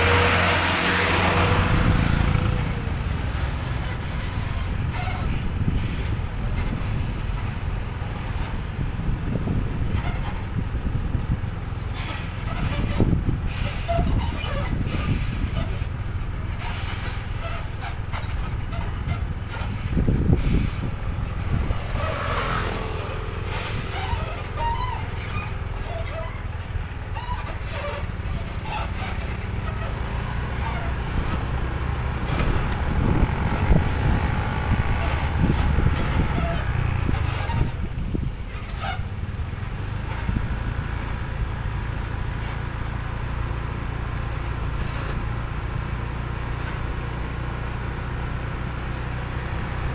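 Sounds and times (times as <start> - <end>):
vehicles driving on road: 0.0 - 49.9.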